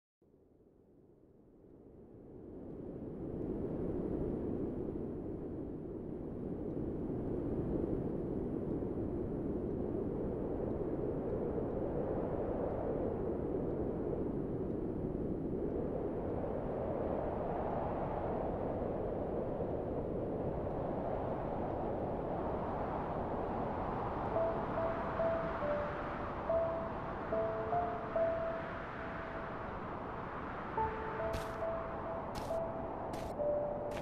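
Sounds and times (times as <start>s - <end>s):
wind rushing: 2.5s - 34.0s.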